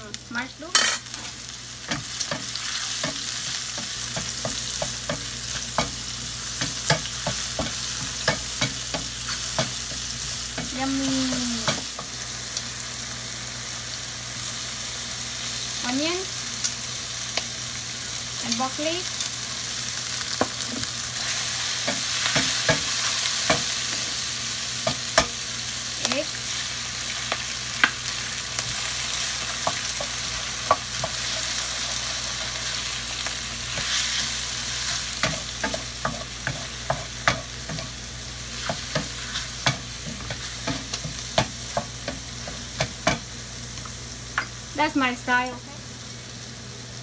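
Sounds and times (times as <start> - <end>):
vegetables sizzling in a frying pan: 0.0 - 47.0.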